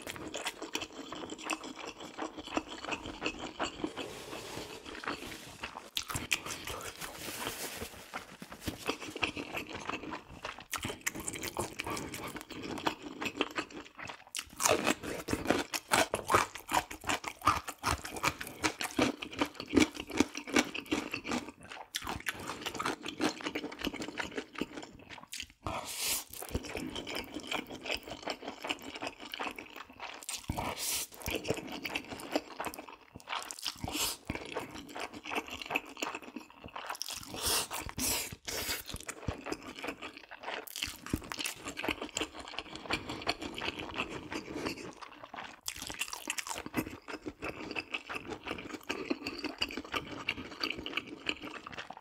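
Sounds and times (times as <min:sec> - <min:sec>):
crunchy bites and chewing: 0:04.7 - 0:07.5, 0:08.2 - 0:52.0.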